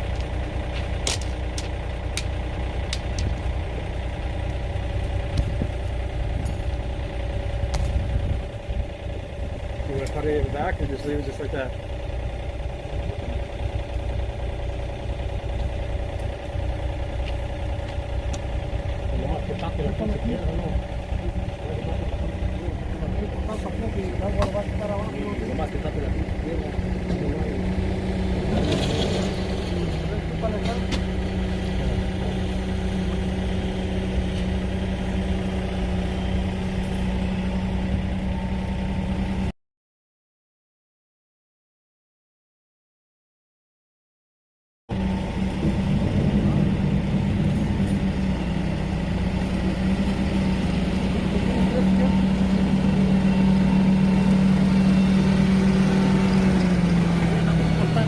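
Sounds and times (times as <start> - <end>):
excavator engine idling: 0.0 - 39.5, 44.9 - 58.0.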